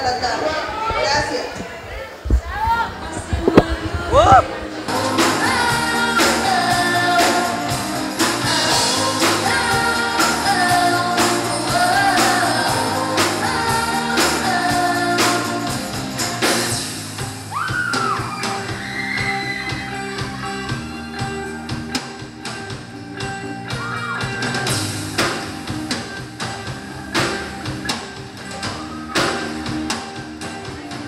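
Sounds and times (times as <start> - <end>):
steady drum beat: 2.3 - 31.0
pop-rock song with lead vocal: 2.8 - 31.0.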